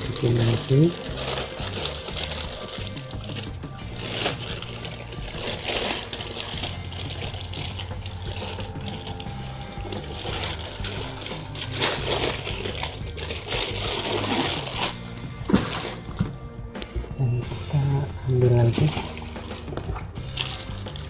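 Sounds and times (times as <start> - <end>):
plastic bag crinkling: 0.0 - 16.4, 17.2 - 21.0.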